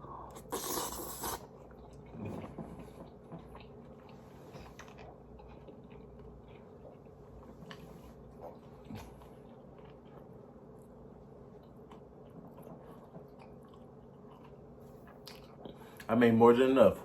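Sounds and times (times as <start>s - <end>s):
chewing: 0.1s - 16.1s.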